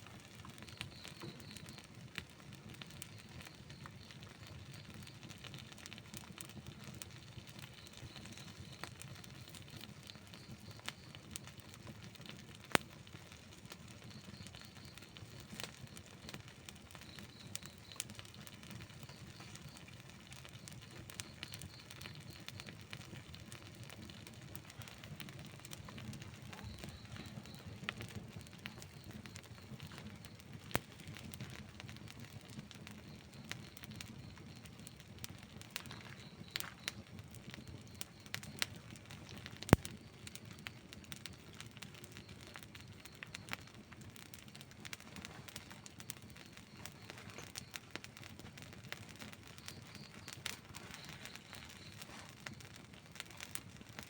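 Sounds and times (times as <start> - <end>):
burning wood crackling and popping: 0.0 - 54.0
campfire flames rumbling: 0.0 - 54.0.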